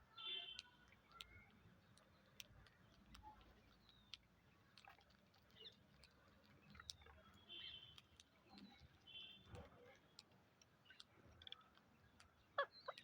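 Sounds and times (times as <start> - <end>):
parrots eating clicks and crunches: 0.4 - 13.0.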